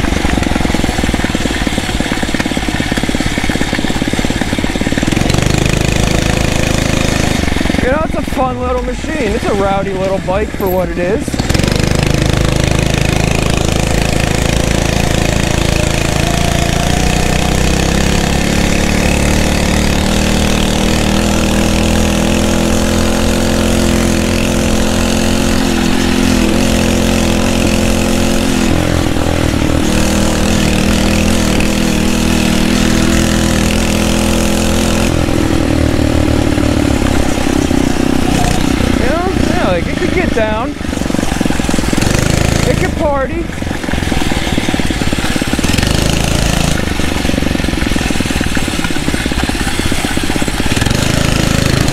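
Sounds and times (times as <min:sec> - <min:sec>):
motorized bicycle engine revving: 0:00.0 - 0:51.9.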